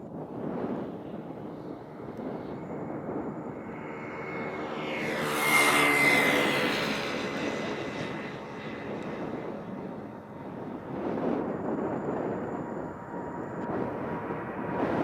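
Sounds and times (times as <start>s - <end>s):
jet engines roaring at take-off: 0.0s - 15.0s
high whine falling in pitch: 0.4s - 15.0s.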